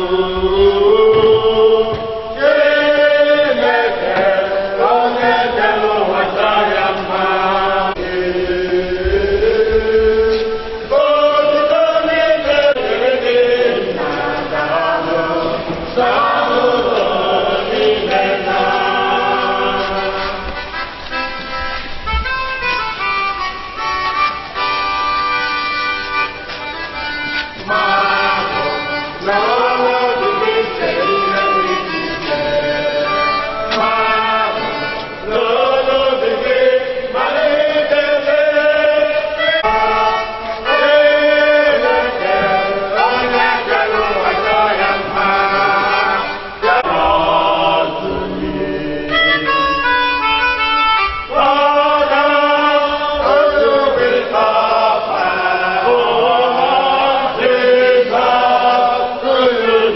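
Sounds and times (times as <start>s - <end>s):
group singing a hymn: 0.0s - 59.9s
musical accompaniment: 0.0s - 59.9s.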